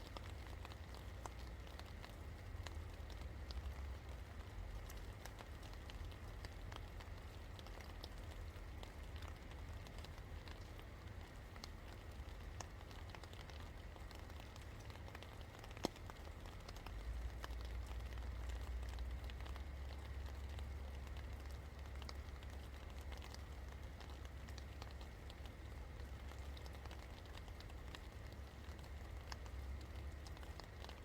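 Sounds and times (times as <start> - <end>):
rain drops ticking on hard surface: 0.0 - 31.0.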